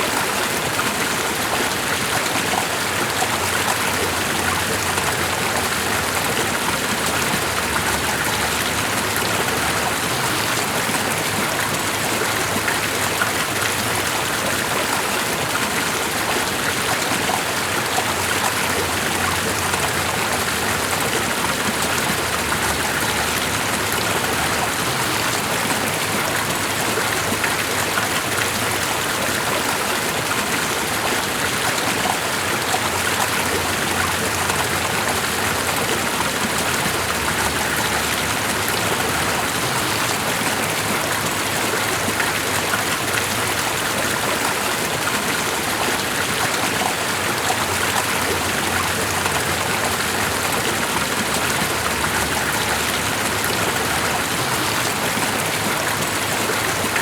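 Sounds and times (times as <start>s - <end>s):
water running steadily: 0.0s - 57.0s.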